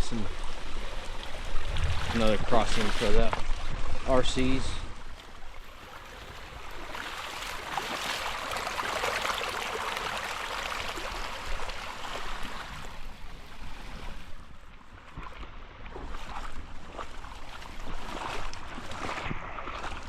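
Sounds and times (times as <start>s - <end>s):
creek water rushing and splashing: 0.0s - 20.0s.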